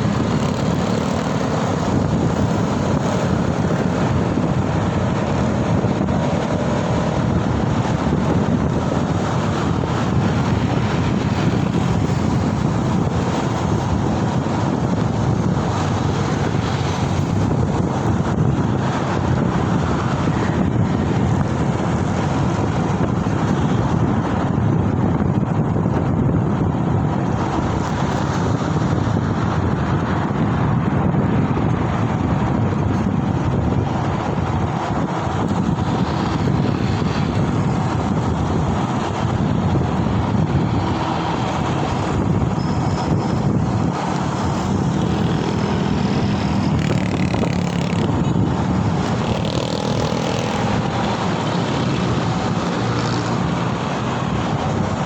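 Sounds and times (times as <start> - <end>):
road noise in traffic: 0.0 - 55.0
wind rushing over microphone: 0.0 - 55.0.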